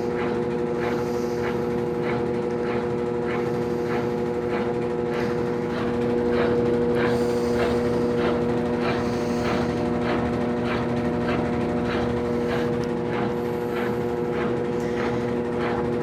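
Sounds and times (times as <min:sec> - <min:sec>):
washing machine spin cycle: 0:00.0 - 0:16.0.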